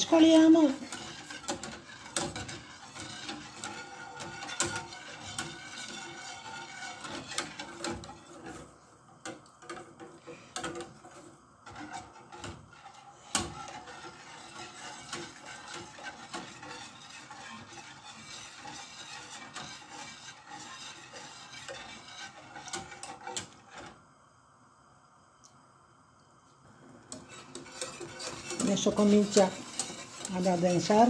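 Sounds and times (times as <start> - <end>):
wire whisk rattling in metal pot: 0.0 - 8.6, 9.6 - 23.9, 27.1 - 31.0.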